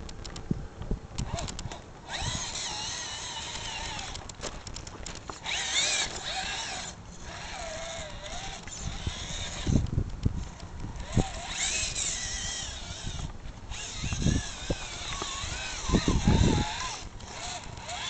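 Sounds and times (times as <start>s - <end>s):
electric motor whining: 1.1s - 18.0s.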